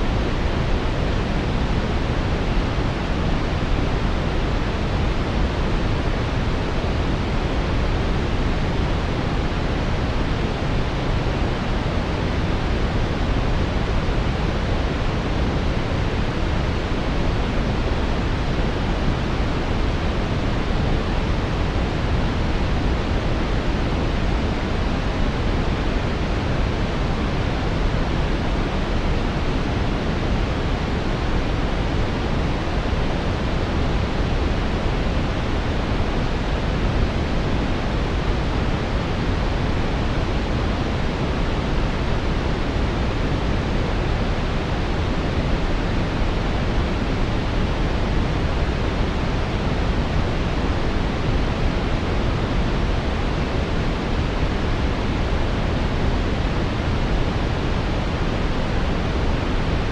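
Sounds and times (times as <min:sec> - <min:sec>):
brown noise: 0:00.0 - 0:59.9.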